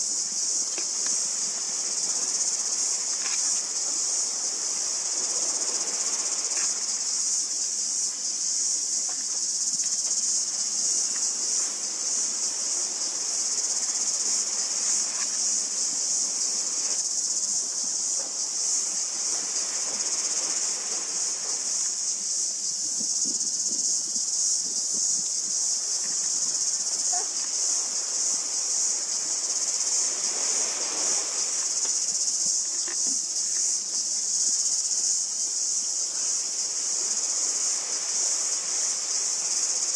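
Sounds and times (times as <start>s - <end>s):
insects chirring: 0.0s - 39.9s
waves washing: 0.2s - 22.2s, 25.8s - 34.0s, 36.4s - 39.9s.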